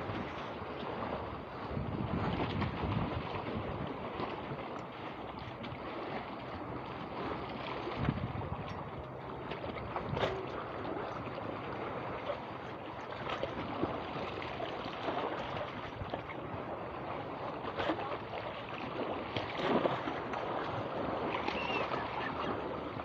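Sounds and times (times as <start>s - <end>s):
sea water rushing: 0.0s - 23.0s
wind: 0.0s - 23.0s.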